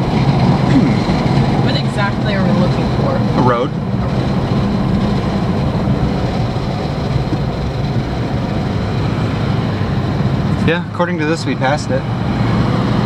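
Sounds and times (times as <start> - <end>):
road rumble inside truck cab: 0.0 - 13.0.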